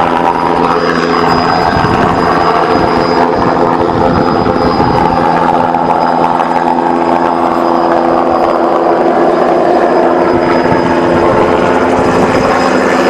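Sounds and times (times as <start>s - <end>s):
helicopter rotor chopping: 0.0s - 13.0s
thin high whine: 0.0s - 13.0s.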